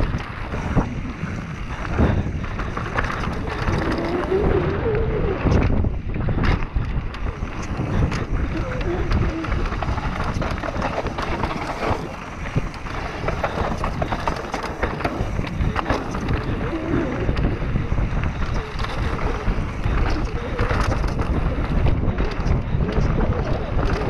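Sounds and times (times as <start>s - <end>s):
bike clicks and rattles: 0.0s - 24.0s
tyres rumbling on dirt: 0.0s - 24.0s
wind buffeting microphone: 0.0s - 24.0s.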